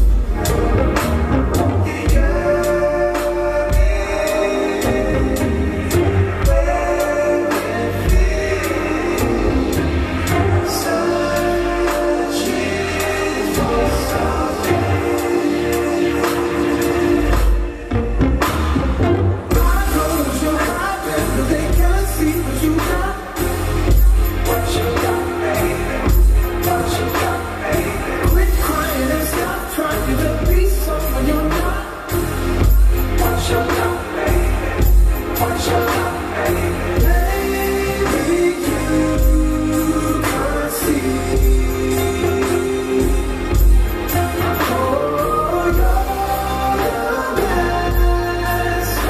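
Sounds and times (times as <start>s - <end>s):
singing over heavy bass: 0.0s - 49.0s.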